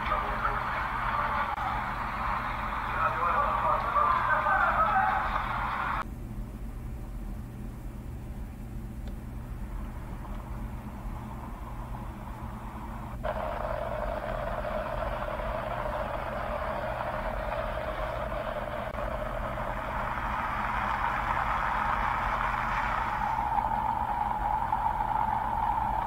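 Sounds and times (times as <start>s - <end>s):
vehicle engine humming: 0.0s - 6.1s, 7.8s - 26.0s.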